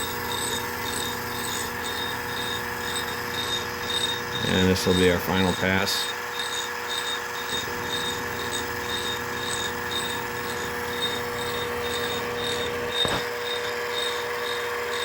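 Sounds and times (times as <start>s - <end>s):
mill machine humming: 0.0s - 15.0s.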